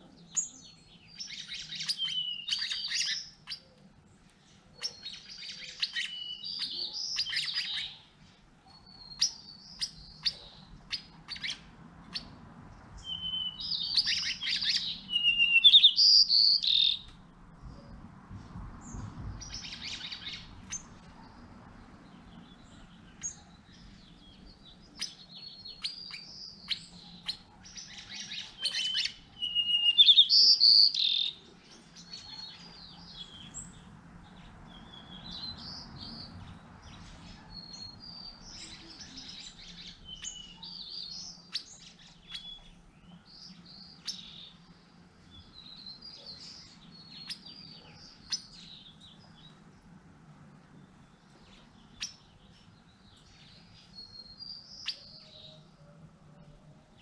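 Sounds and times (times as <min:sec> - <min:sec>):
birds chirping and calling: 0:00.0 - 0:17.9, 0:18.8 - 0:57.0
loud birdsong: 0:00.0 - 0:57.0.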